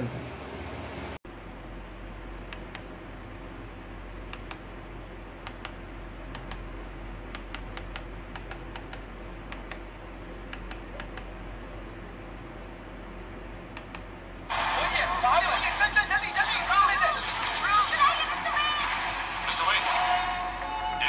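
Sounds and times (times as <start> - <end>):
projector cooling fan whirring: 0.0 - 21.0.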